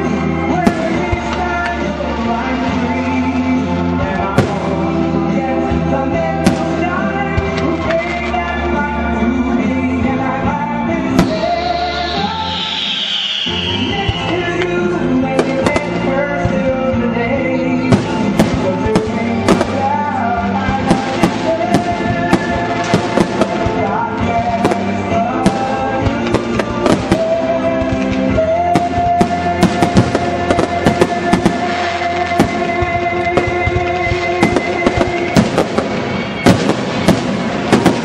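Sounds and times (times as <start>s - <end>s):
continuous music: 0.0s - 38.0s
fireworks bursting with sharp bangs: 0.0s - 38.0s.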